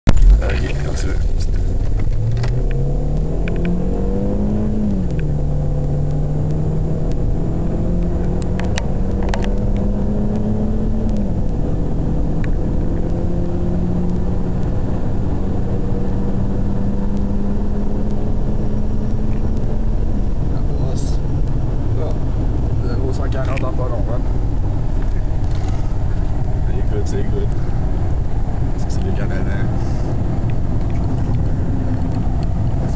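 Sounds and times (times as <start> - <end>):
car engine accelerating: 0.1 - 32.9.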